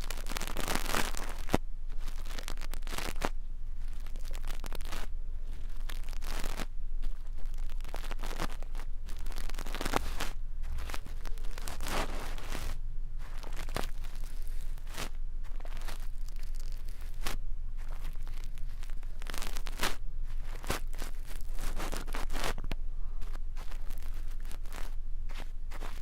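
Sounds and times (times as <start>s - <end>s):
brush bristles scratching microphone: 0.0s - 22.6s, 23.2s - 26.0s.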